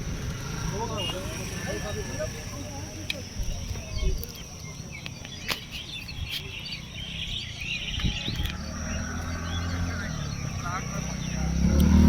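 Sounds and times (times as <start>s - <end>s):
birds chirping: 0.0s - 12.0s
vehicle engine hum: 0.0s - 12.0s.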